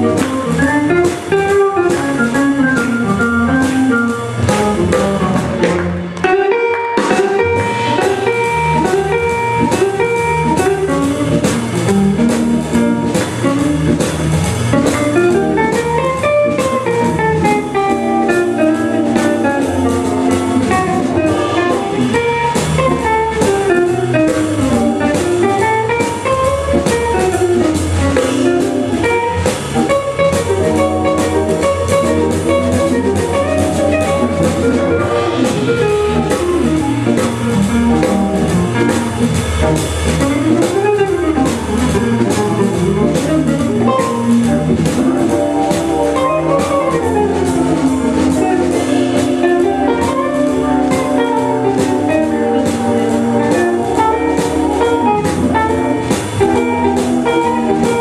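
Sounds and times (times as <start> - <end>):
organ bass line: 0.0 - 6.2, 7.1 - 58.0
electric guitar melody: 0.0 - 58.0.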